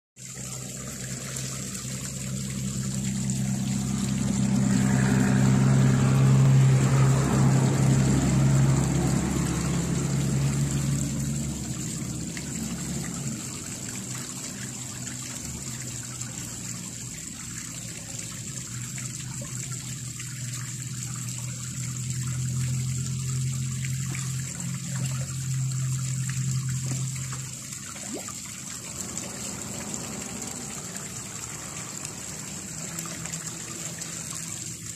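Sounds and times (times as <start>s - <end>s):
steady low hum: 0.2s - 34.9s
water trickling into pond: 0.2s - 34.9s.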